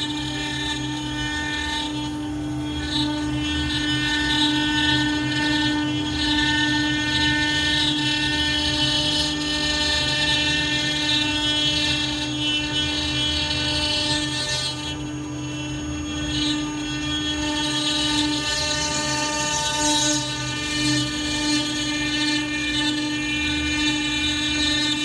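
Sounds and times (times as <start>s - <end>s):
cnc router spindle whine: 0.0s - 25.0s.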